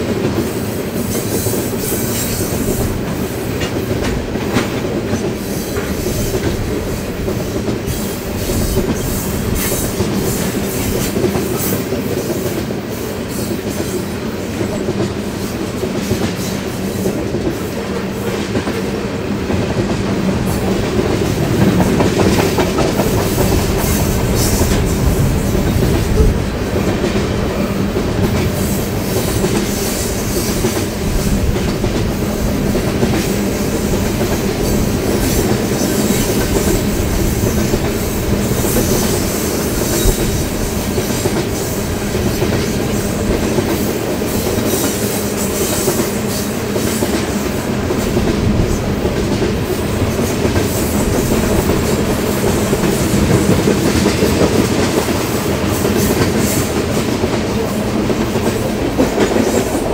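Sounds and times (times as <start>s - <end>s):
train rumbling past: 0.0s - 59.9s.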